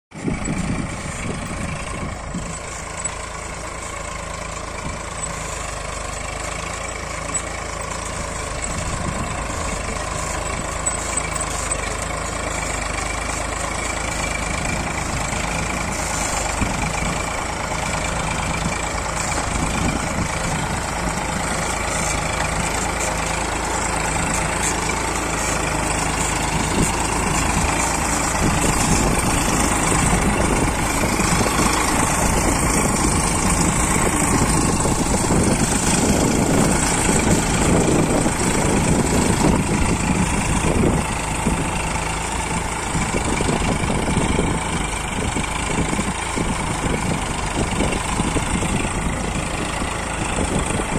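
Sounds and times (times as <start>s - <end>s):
tractor diesel engine running: 0.1s - 50.9s.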